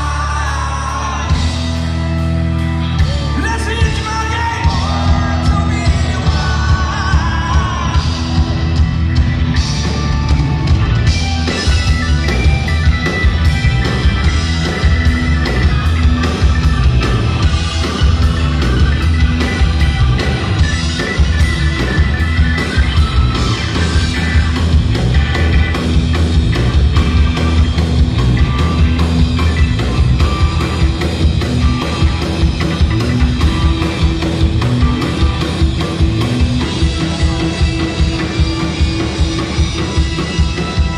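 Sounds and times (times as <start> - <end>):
electric guitars: 0.0 - 40.9
drum kit beat: 2.9 - 40.9.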